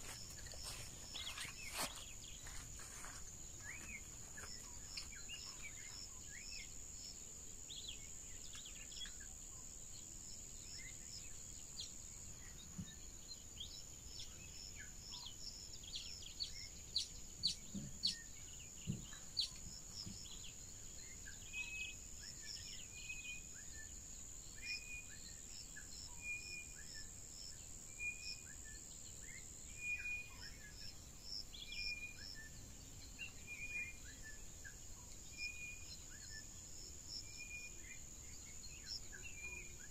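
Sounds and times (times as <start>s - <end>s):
bird calls and chirps: 0.0s - 39.9s.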